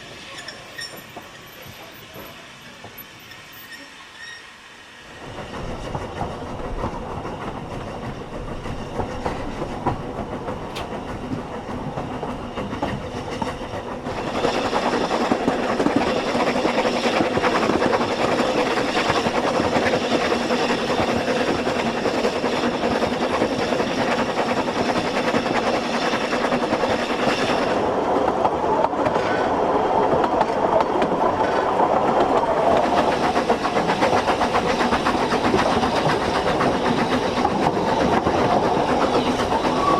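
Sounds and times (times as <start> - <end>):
train running on track: 0.0 - 39.9
wheels clicking over rail joints: 5.8 - 39.9.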